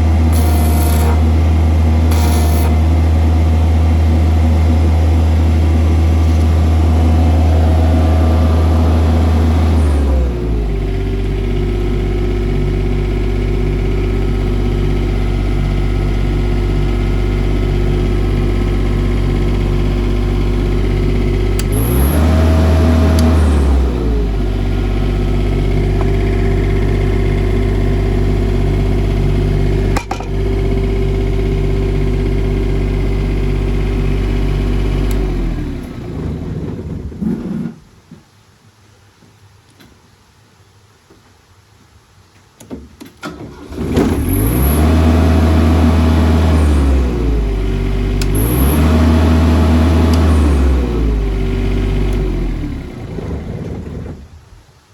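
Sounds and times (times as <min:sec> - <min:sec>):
welder engine running: 0:00.0 - 0:36.9, 0:43.9 - 0:54.2.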